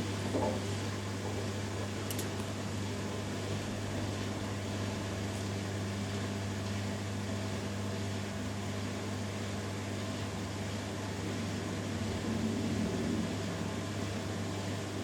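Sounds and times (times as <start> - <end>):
washing machines spinning: 0.0 - 15.0.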